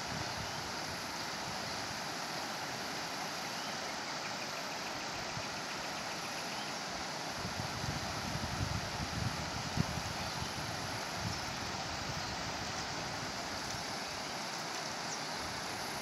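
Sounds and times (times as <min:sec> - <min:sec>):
river rushing over rapids: 0:00.0 - 0:16.0.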